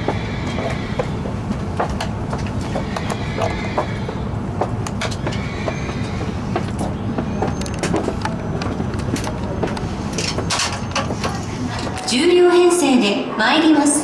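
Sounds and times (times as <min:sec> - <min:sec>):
wheels clicking over rail joints: 0:00.0 - 0:12.1
train interior rumble: 0:00.0 - 0:12.6.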